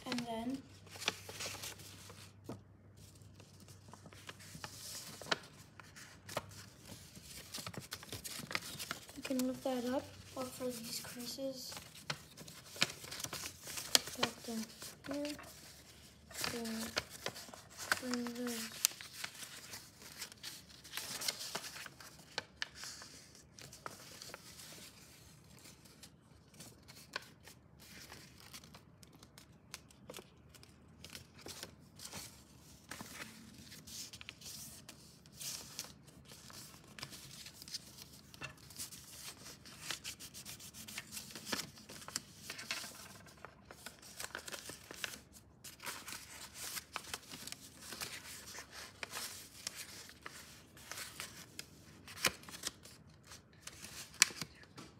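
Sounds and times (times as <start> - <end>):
paper folding and crinkling: 0.0 - 54.9.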